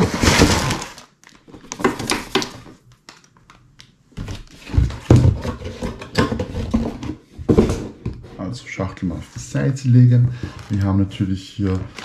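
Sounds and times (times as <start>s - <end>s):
contents rustling and scraping: 0.0s - 3.6s, 4.2s - 12.0s.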